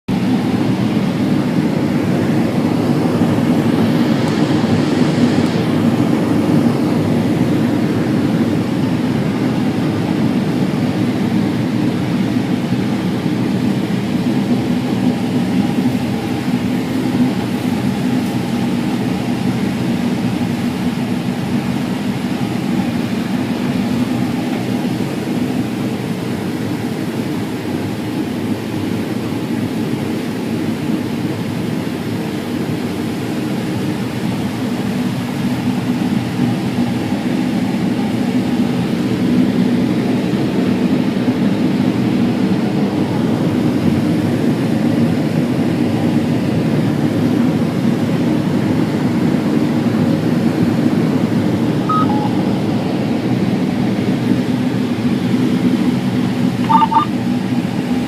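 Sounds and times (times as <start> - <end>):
combine harvester drone: 0.1 - 58.0.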